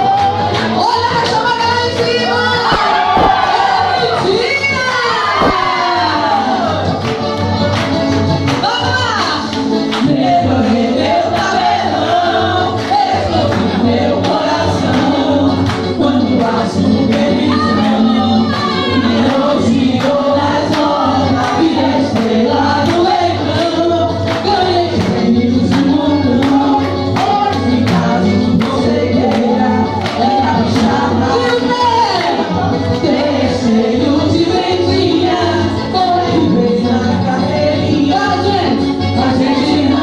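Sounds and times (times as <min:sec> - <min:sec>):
voices singing: 0:00.0 - 0:40.0.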